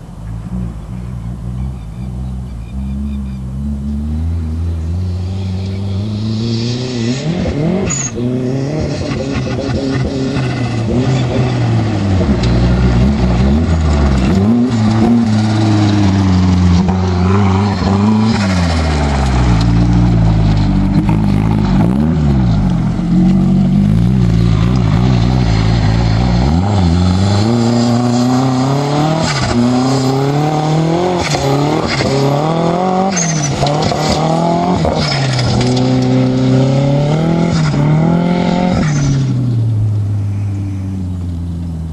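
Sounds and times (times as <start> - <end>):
truck engine revving: 0.5 - 40.4.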